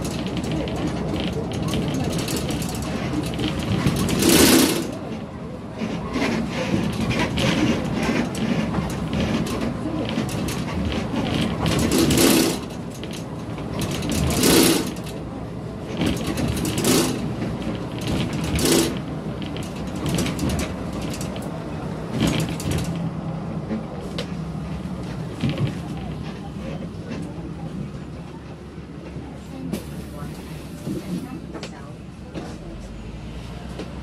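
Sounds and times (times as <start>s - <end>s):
vehicle engine running with rattle: 0.0s - 27.5s.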